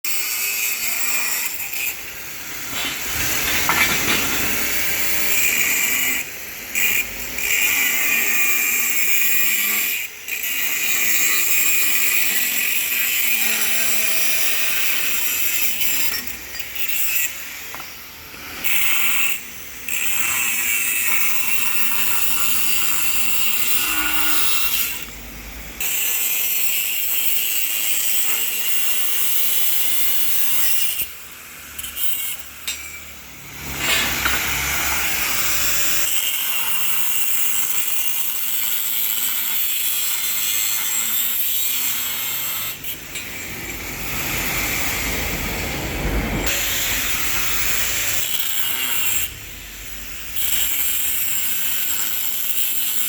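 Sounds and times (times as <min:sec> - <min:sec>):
angle grinder cutting steel: 0:00.0 - 0:53.0.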